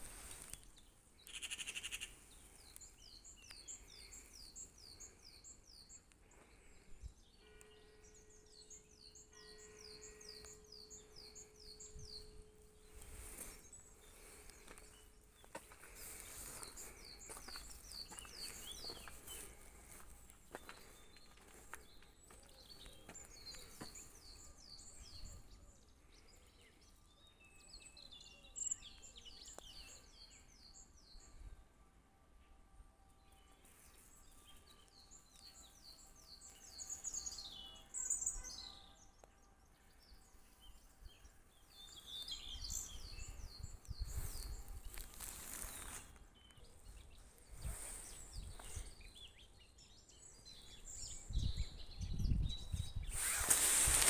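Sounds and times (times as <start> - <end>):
small birds chirping: 0.0 - 31.2, 33.3 - 54.0.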